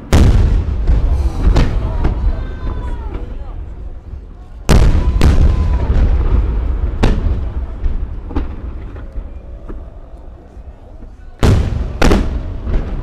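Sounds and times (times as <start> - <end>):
firework shells booming: 0.0 - 9.8, 11.4 - 13.0
low rolling echo rumble: 0.0 - 13.0.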